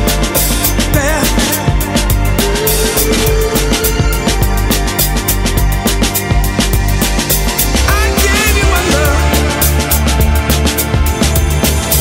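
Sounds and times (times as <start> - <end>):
drum beat: 0.0 - 12.0
wavering melody line: 0.0 - 12.0.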